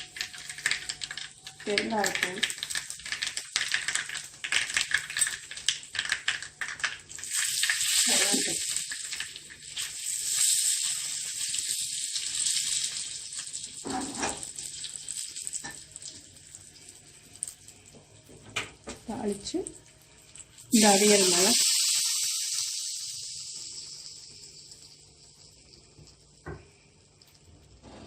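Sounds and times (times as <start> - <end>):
seeds sizzling and popping in oil: 0.0 - 28.0.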